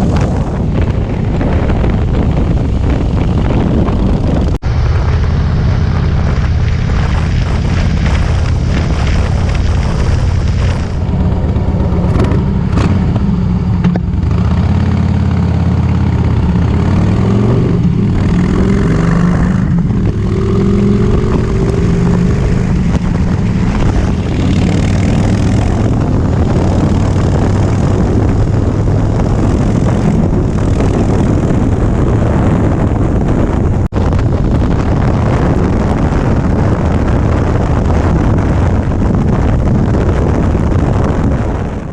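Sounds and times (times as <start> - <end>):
motorcycle exhaust revving: 0.0 - 41.9.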